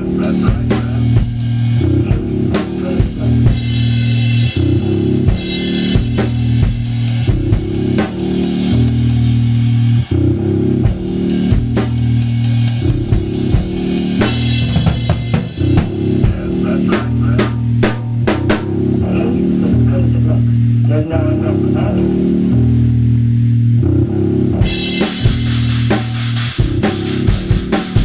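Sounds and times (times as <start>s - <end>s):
drum kit playing: 0.0s - 19.9s, 24.4s - 28.0s
backing track bass line: 0.0s - 28.0s.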